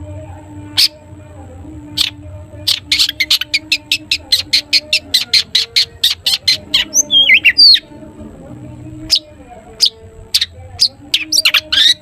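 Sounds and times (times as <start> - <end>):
shrike singing: 0.0 - 12.0.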